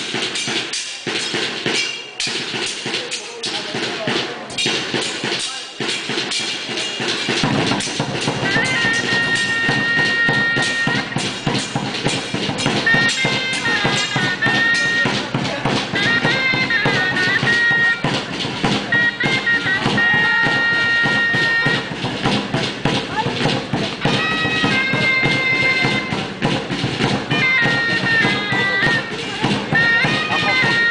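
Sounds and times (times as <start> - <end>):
shawm playing shrill melody: 0.0 - 30.9
steady drumbeats: 0.0 - 30.9.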